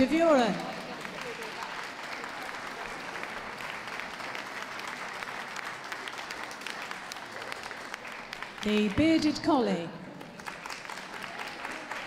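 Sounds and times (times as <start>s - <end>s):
audience applauding: 0.5s - 9.2s, 10.1s - 12.0s.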